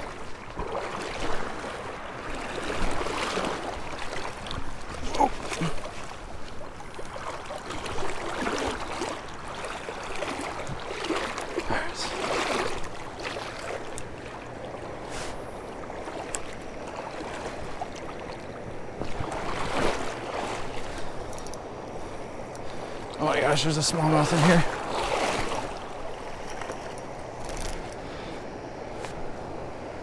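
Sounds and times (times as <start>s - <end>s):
creek water over rocks: 0.0s - 30.0s.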